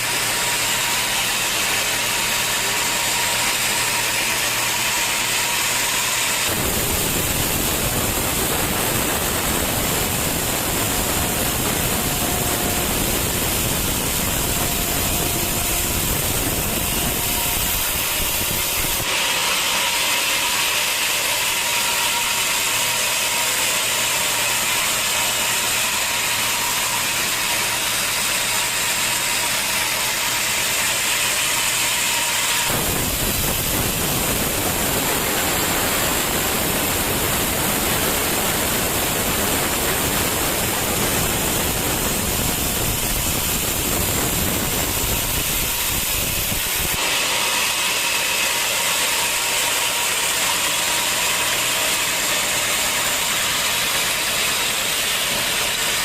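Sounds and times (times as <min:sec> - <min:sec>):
sawmill saw cutting timber: 0:00.0 - 0:56.0.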